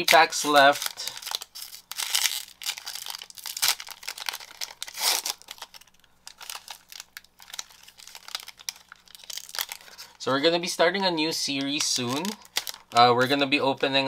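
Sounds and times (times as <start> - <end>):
wrapper tearing and crinkling: 0.0 - 10.2, 11.5 - 13.0.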